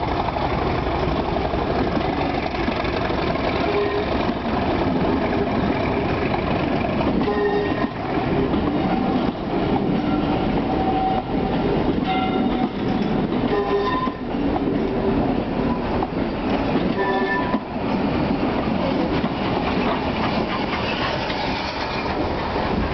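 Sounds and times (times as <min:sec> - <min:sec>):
wheels clattering over rail joints: 0:02.0 - 0:22.9.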